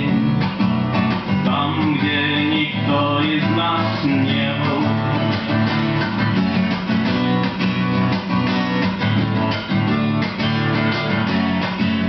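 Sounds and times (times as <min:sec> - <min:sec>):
acoustic guitars strumming chords: 0:00.0 - 0:12.0.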